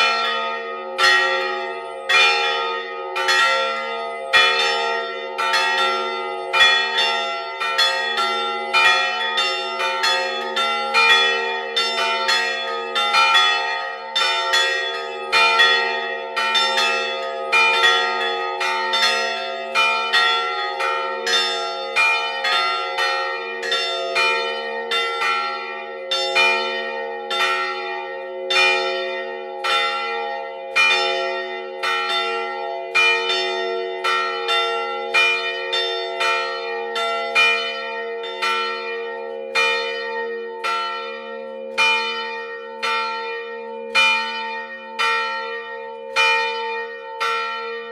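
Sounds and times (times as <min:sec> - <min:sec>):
church bells chiming: 0:00.0 - 0:47.9.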